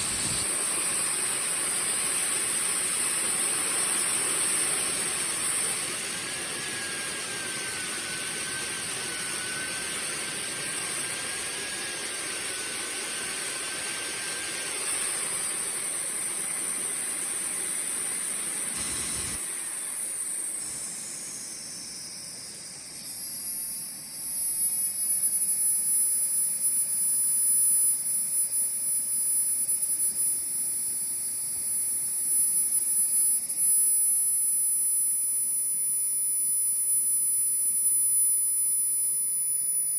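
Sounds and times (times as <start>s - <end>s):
turbine whine with rushing hiss: 0.0s - 39.9s.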